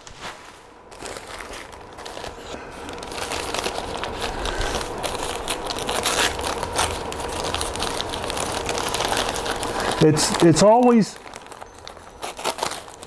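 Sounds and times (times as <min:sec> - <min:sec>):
crumpled paper rustling: 0:00.0 - 0:13.0.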